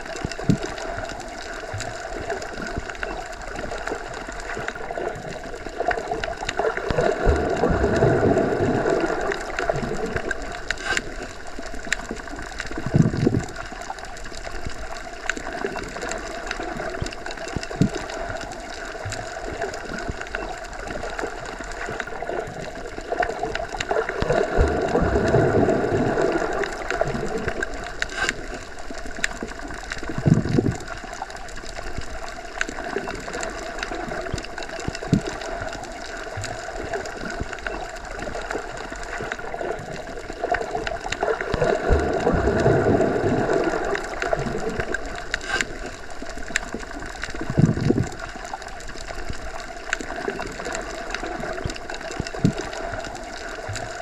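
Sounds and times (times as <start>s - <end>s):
underwater hiss and rumble: 0.0s - 54.0s.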